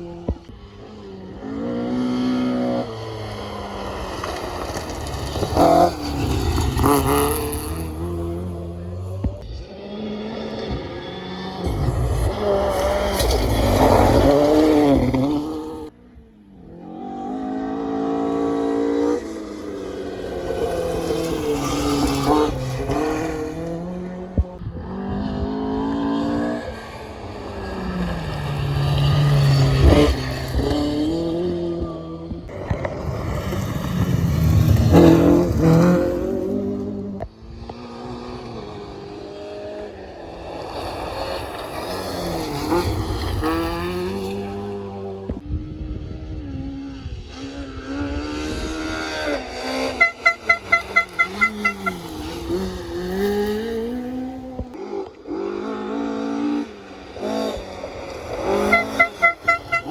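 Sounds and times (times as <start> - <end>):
rally car approaching: 0.0 - 59.9
rally car engine at high revs: 0.0 - 59.9.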